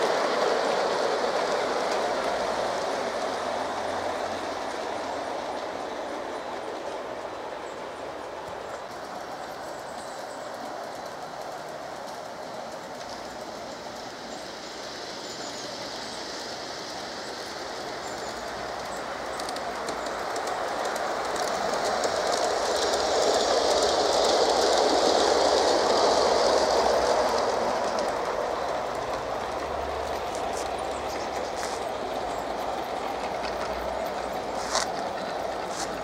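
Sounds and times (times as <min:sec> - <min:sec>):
model train rolling on track: 0:00.0 - 0:36.0.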